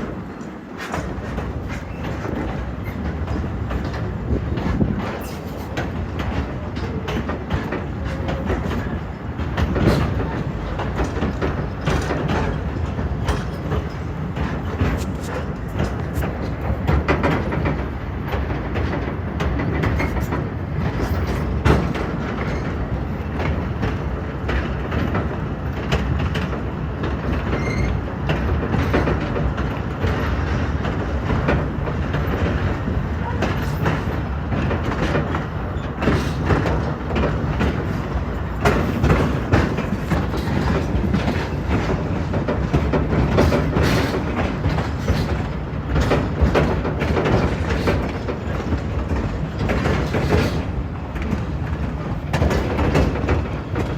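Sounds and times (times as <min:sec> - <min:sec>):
railway car rumbling: 0:00.0 - 0:53.9
wheels clicking over rails: 0:00.0 - 0:53.9.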